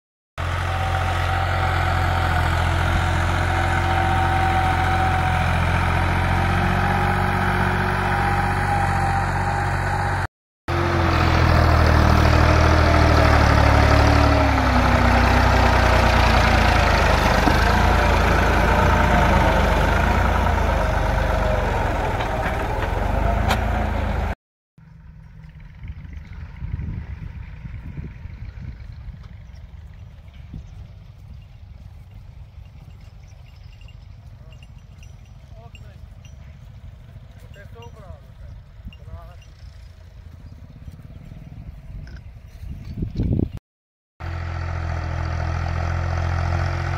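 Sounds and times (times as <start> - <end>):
tractor diesel engine under load: 0.4 - 43.5, 44.2 - 46.9.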